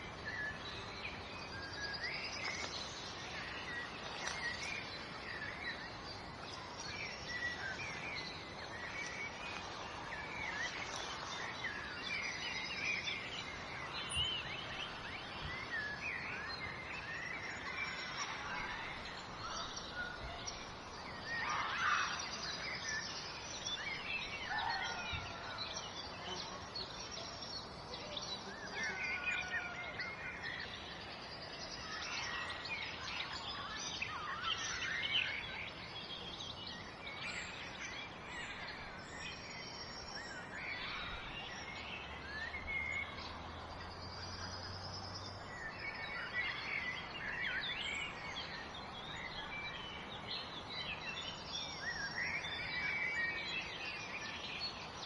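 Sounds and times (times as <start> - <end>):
birds chirping and singing: 0.0 - 55.0
steady background hiss: 0.0 - 55.0.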